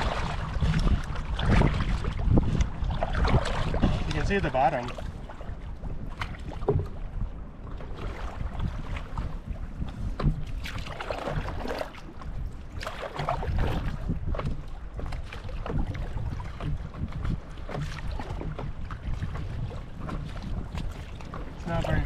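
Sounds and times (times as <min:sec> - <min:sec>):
paddle strokes splashing: 0:00.0 - 0:22.0
water sloshing: 0:00.0 - 0:22.0
wind rumbling on microphone: 0:00.0 - 0:22.0.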